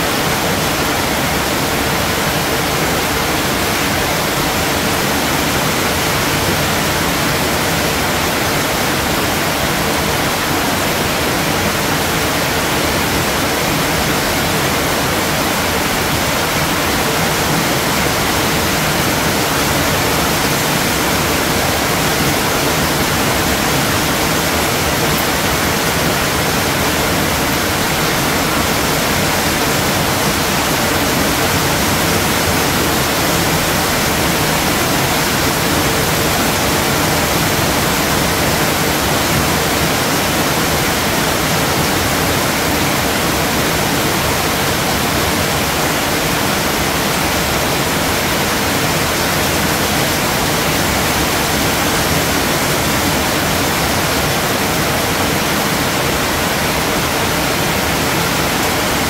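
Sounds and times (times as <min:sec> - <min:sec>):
heavy rain hissing: 0:00.0 - 0:59.0.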